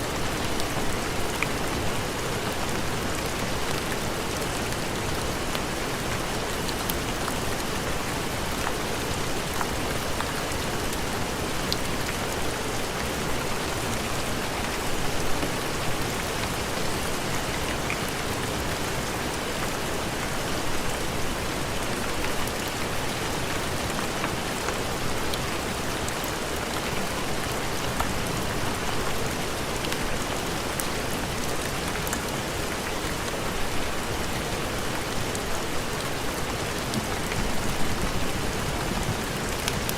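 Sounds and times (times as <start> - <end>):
heavy rain falling: 0.0 - 39.9
rain drops ticking: 0.1 - 39.9.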